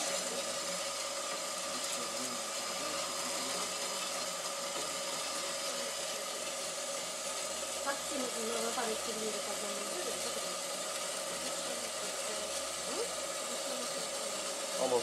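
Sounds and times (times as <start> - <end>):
band saw cutting metal whine: 0.0 - 15.0.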